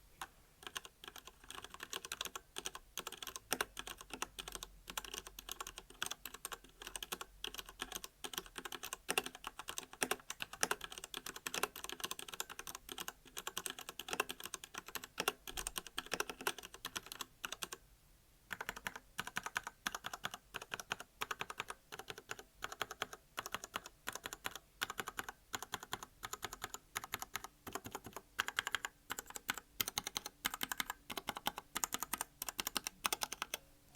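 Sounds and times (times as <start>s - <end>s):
mechanical keyboard typing: 0.6s - 17.8s, 18.5s - 33.6s.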